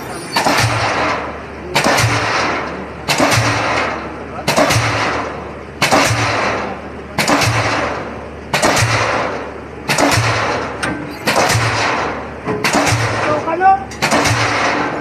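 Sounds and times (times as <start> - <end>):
engine humming: 0.0 - 15.0
pile hammer striking steel: 0.0 - 15.0.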